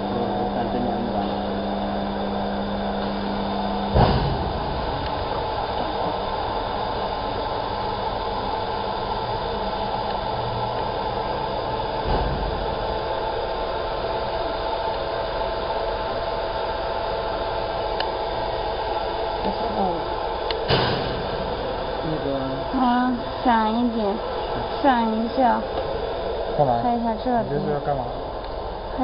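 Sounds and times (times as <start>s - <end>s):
faint machine whine: 0.0s - 29.0s.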